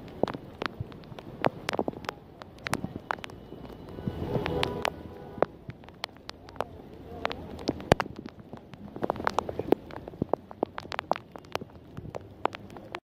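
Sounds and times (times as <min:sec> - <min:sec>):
raindrops tapping: 0:00.0 - 0:13.0.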